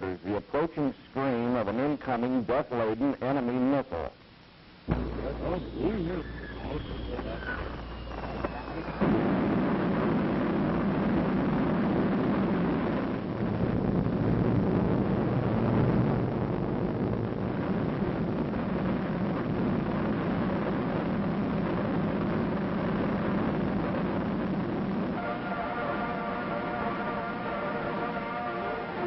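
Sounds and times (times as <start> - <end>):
atomic explosion rumble: 4.9 - 28.3.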